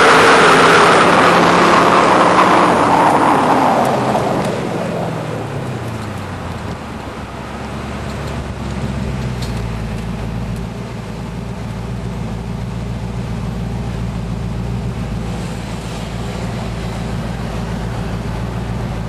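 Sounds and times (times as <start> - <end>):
engine running at low revs: 0.0 - 19.0
road noise: 0.0 - 19.0.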